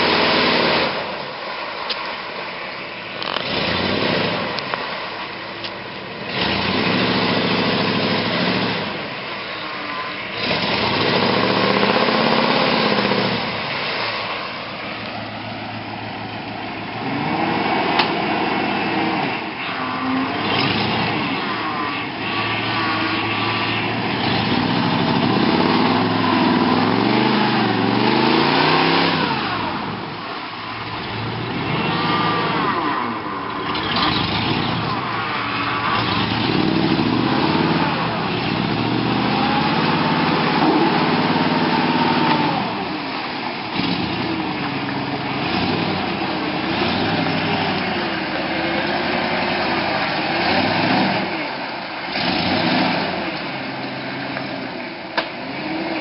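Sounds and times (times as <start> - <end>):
truck engine revving under load: 0.0 - 56.0.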